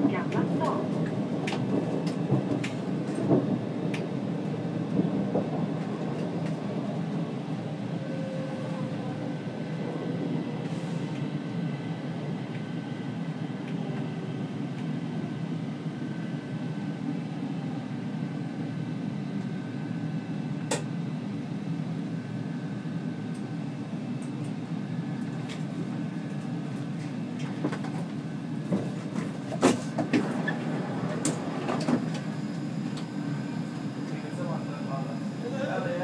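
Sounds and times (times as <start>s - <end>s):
train rumbling on track: 0.0s - 36.0s.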